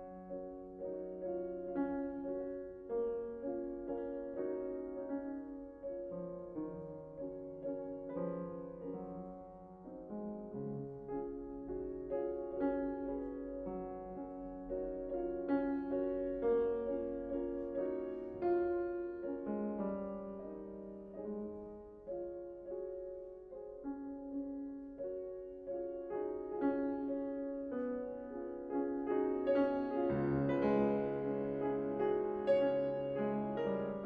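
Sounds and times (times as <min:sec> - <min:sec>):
slow classical piano: 0:00.0 - 0:34.0.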